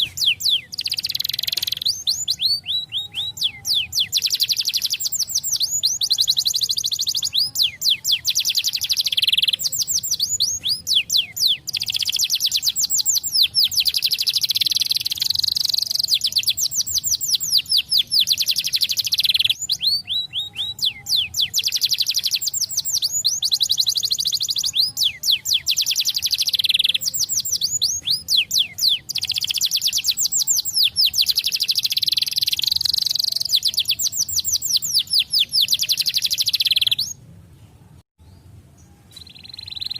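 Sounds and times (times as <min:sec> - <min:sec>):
canary singing trills: 0:00.0 - 0:37.2, 0:38.2 - 0:39.9.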